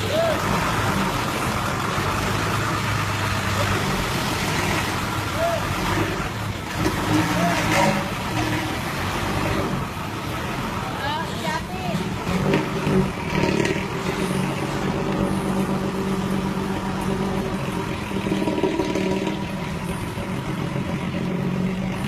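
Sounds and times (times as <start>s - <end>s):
bus diesel engine growling: 0.0s - 22.0s.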